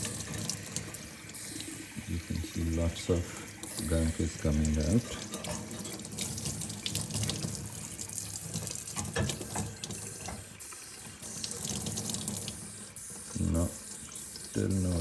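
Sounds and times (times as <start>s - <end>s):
tap water splashing into sink: 0.0s - 12.6s.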